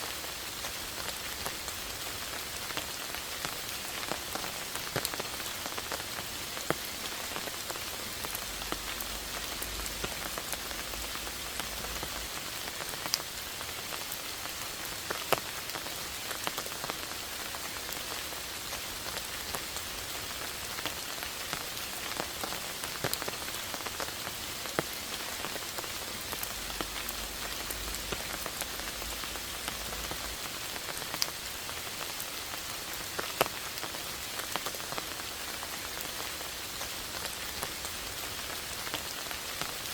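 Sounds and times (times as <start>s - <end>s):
steady rain hiss: 0.0s - 39.9s
raindrops striking close by: 0.1s - 39.9s.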